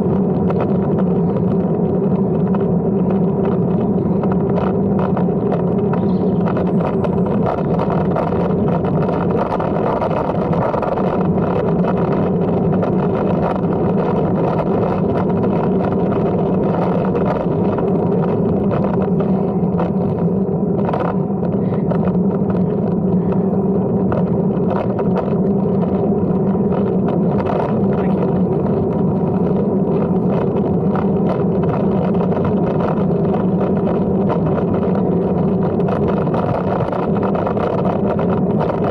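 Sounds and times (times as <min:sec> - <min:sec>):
steady rumble with hum tones: 0:00.0 - 0:38.9.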